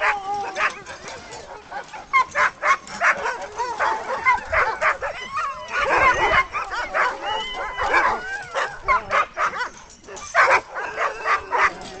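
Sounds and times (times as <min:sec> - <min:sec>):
dogs barking yipping and whining: 0:00.0 - 0:12.0.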